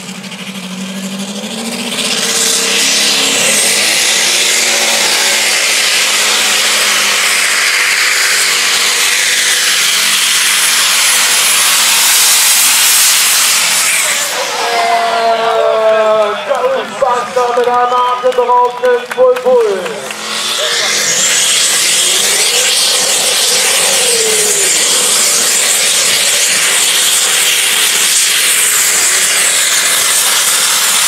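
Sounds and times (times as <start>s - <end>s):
high whine: 0.0s - 31.0s
tractor engine revving: 0.0s - 31.0s.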